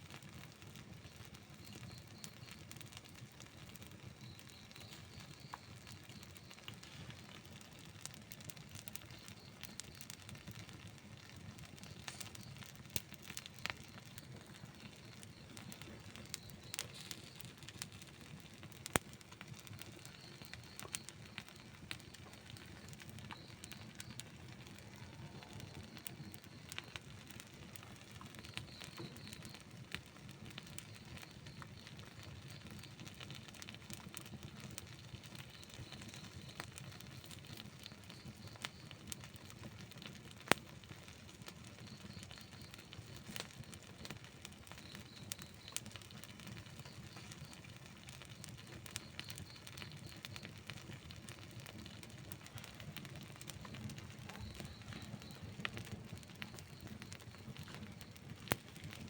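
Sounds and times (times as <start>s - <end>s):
burning wood crackling and popping: 0.0s - 59.0s
campfire flame rush: 0.1s - 59.0s.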